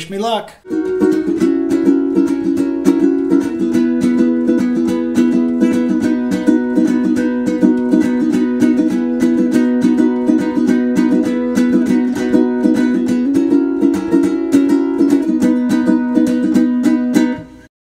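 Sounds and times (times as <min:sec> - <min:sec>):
plucked-string music: 0:00.6 - 0:17.7.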